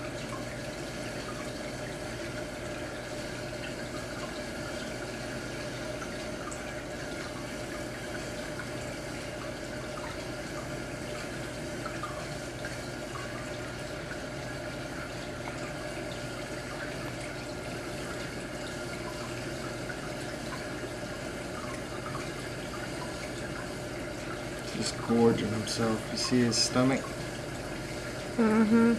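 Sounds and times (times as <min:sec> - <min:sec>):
low pump hum: 0:00.0 - 0:28.9
running water: 0:00.0 - 0:28.9.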